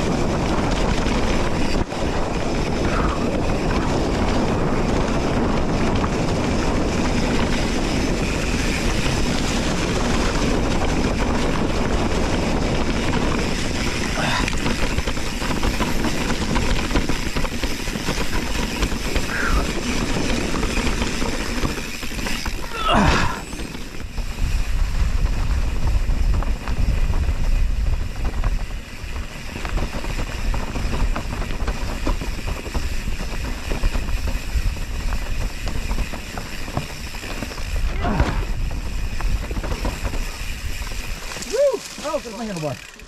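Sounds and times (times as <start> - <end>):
wind on microphone: 0.0 - 42.5
bike rattling and knocking: 0.0 - 43.0
bike tyres rumbling on dirt: 0.0 - 43.0.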